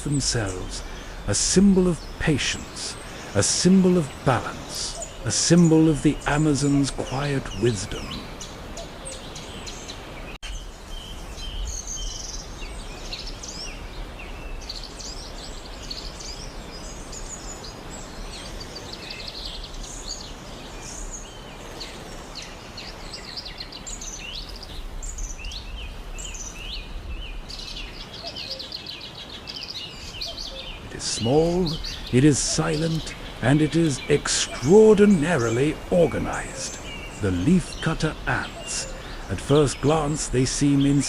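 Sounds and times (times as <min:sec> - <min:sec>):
small birds chirping: 0:00.0 - 0:41.0
steady background hiss: 0:00.0 - 0:41.0.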